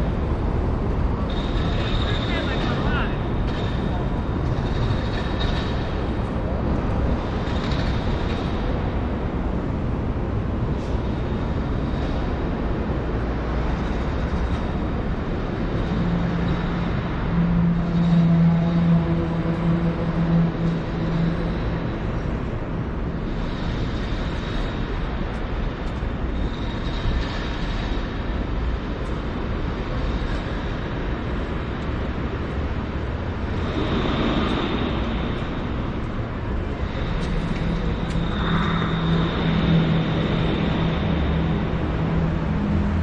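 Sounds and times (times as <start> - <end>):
street traffic rumble: 0.0 - 43.0
vehicle engine hum: 0.0 - 43.0.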